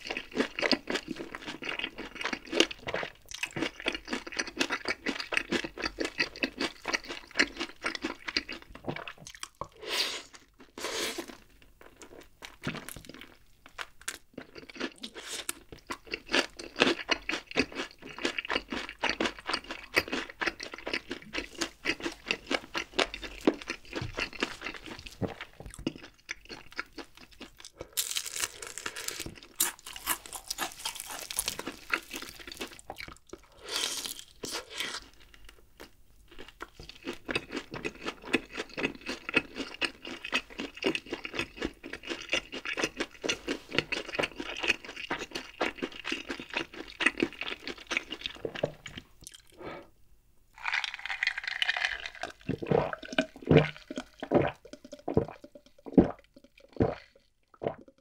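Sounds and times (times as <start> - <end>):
crunching and chewing fried chicken: 0.0 - 49.6, 50.6 - 58.0.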